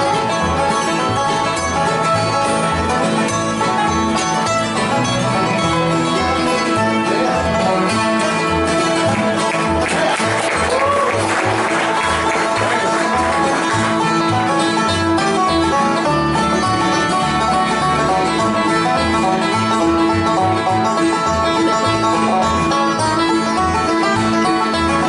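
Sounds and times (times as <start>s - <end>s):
banjo picking: 0.0s - 25.0s
bass notes: 0.0s - 25.0s
strummed guitar: 0.0s - 25.0s.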